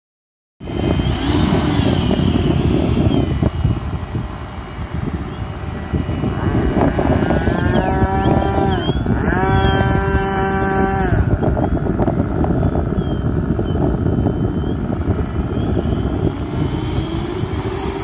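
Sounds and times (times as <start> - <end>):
model jet engine rush: 0.6 - 18.0.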